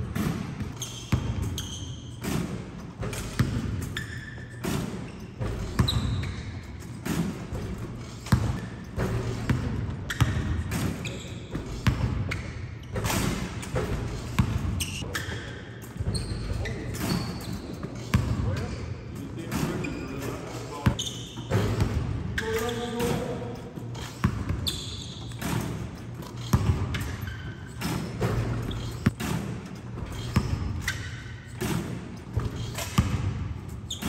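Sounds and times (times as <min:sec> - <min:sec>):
basketballs bouncing on court: 0:00.0 - 0:34.0
shoe squeaks: 0:00.6 - 0:34.0.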